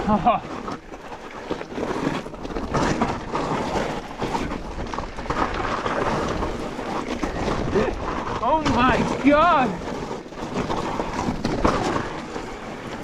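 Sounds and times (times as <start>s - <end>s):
bike tyres rumbling on dirt: 0.0s - 13.0s
wind: 0.0s - 13.0s
bike clattering over bumps: 0.2s - 13.0s.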